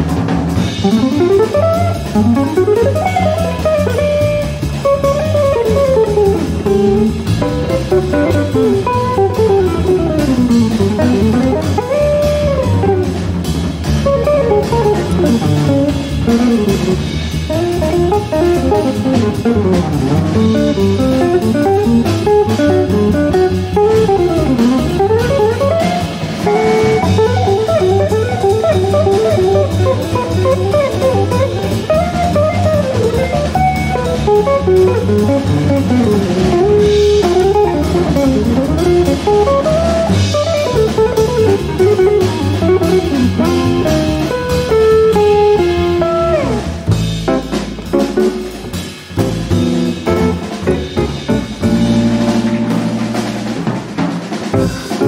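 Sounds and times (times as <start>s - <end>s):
drum kit: 0.0s - 55.0s
walking bass: 0.0s - 55.0s
electric guitar lines: 0.8s - 13.2s, 14.0s - 53.8s.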